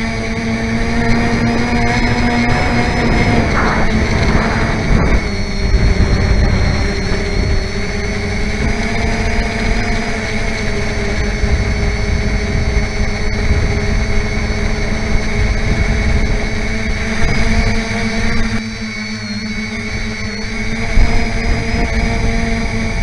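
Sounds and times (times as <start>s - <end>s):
wind rumble: 0.0s - 18.6s
model aircraft motors whining: 0.0s - 23.0s.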